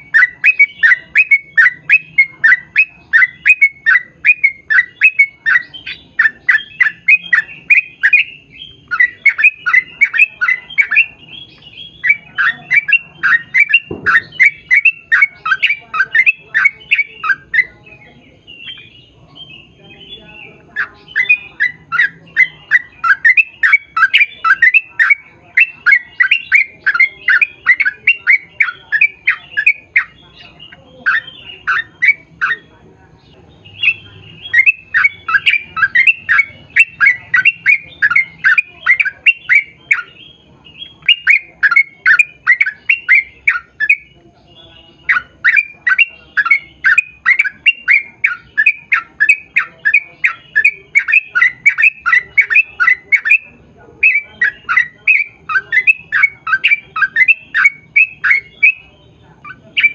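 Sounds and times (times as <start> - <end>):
bulbul singing chattering notes: 0.0 - 59.9.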